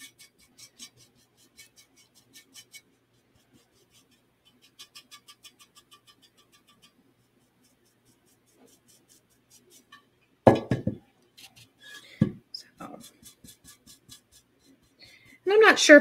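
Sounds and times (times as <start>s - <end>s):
paintbrush scratching on ceramic: 0.0s - 10.1s, 11.4s - 16.0s.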